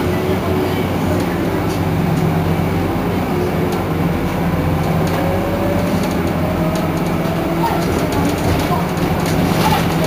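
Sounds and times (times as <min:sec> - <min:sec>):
bus engine drone: 0:00.0 - 0:10.0.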